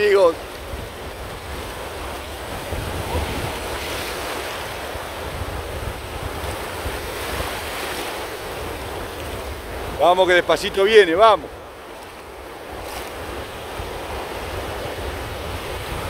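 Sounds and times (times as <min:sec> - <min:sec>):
ocean surf breaking: 0:00.0 - 0:16.0
wind on microphone: 0:00.0 - 0:16.0.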